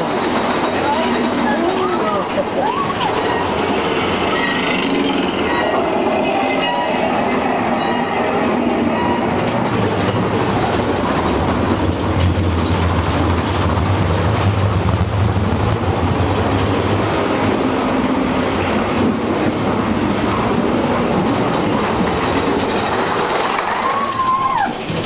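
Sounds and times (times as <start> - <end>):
vehicle rumbling along rails: 0.0 - 25.0.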